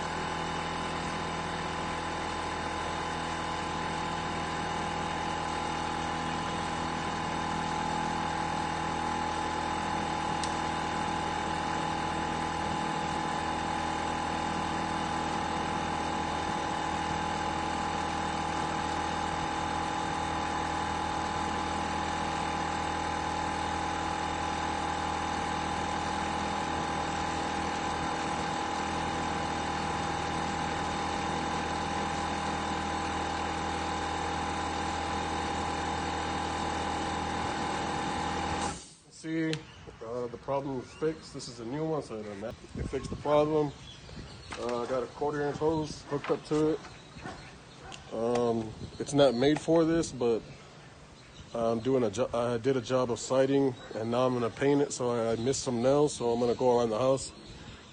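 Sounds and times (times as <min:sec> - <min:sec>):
air compressor running: 0:00.0 - 0:39.2, 0:39.9 - 0:57.9.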